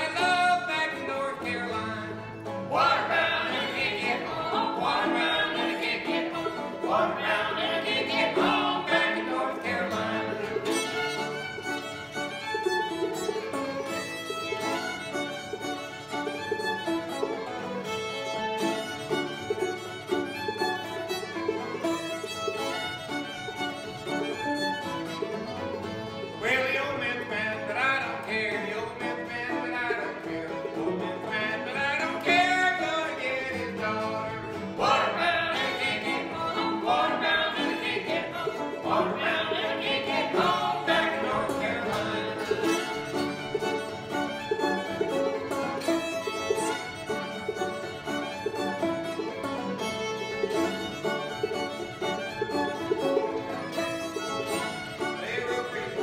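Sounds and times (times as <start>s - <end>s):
acoustic guitar: 0.0s - 56.0s
banjo: 0.0s - 56.0s
fiddles: 0.0s - 56.0s.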